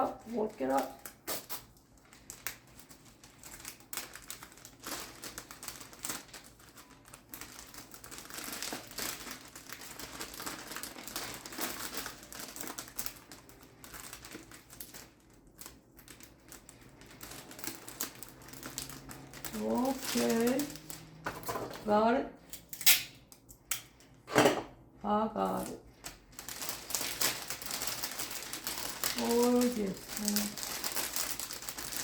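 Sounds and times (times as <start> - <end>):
wrapping crinkling and rustling: 0.0 - 21.9, 25.3 - 32.0.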